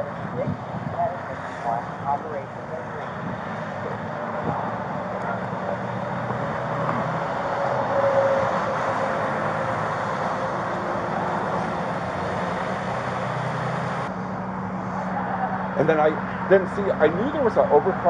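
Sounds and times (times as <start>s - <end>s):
freeway traffic hum: 0.0s - 18.0s
vehicle passing by: 0.0s - 18.0s.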